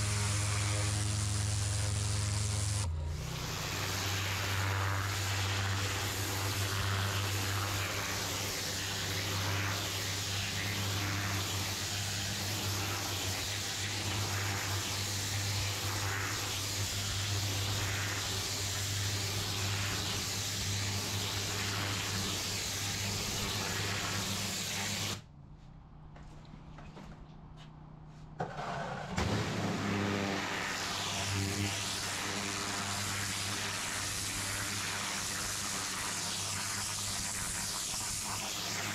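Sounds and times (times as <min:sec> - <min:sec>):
pressure washer motor droning: 0:00.0 - 0:25.2, 0:29.0 - 0:38.9
water jet hissing on paving: 0:00.0 - 0:25.2, 0:29.6 - 0:38.9.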